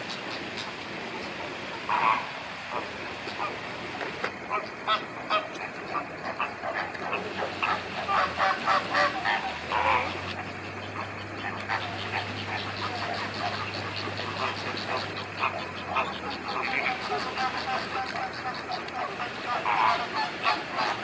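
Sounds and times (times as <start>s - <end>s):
flamingos honking: 0.0s - 21.0s.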